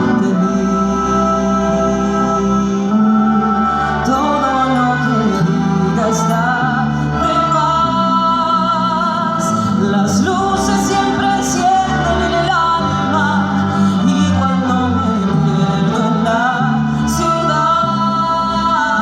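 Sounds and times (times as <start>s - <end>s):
person singing wavering notes: 0.0s - 19.0s
steady bass line: 0.0s - 19.0s.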